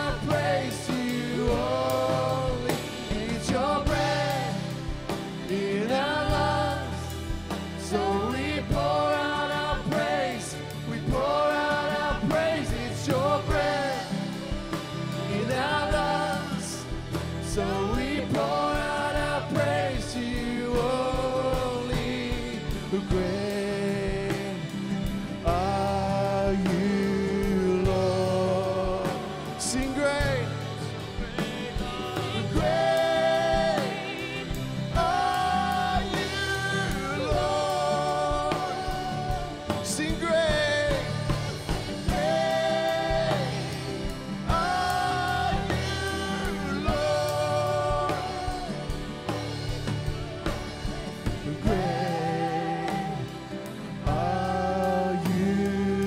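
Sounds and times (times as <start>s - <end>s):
acoustic guitar: 0.0s - 56.0s
drums: 0.0s - 56.0s
keyboard: 0.0s - 56.0s
voices singing held notes: 0.0s - 56.0s.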